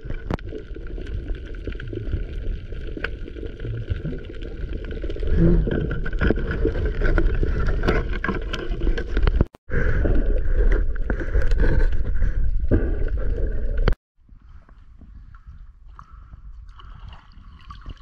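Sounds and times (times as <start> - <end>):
gurgling water: 0.0 - 14.0, 15.2 - 18.0.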